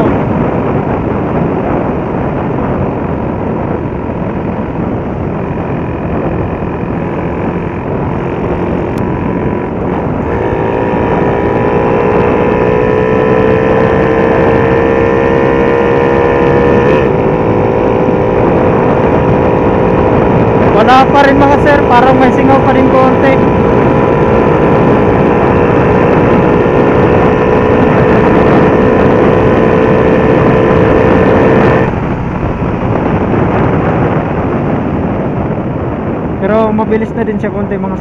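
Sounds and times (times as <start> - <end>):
motorcycle engine revving: 0.0 - 38.0
wind noise on microphone: 0.0 - 38.0.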